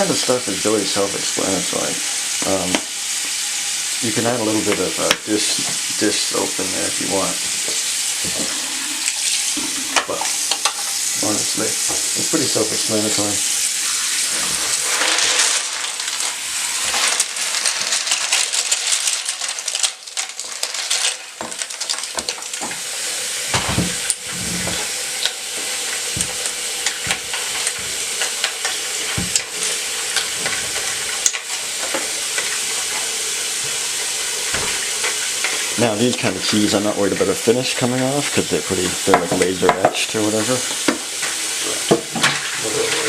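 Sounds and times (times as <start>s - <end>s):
water running from tap: 0.0s - 43.0s.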